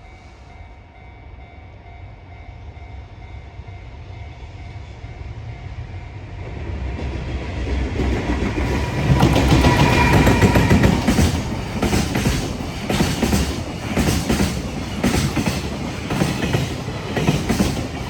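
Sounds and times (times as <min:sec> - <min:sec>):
freight train rumble: 0:00.0 - 0:18.0.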